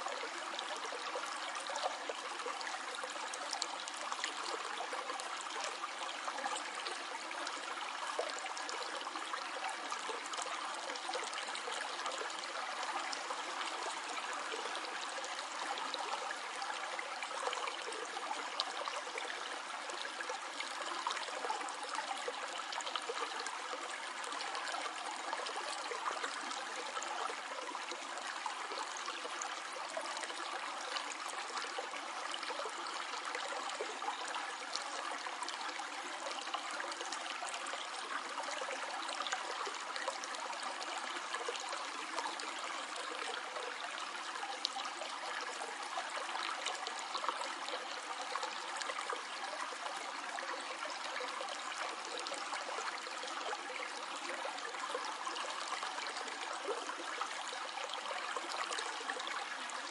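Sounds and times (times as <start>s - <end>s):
stream gurgling over stones: 0.0s - 59.9s.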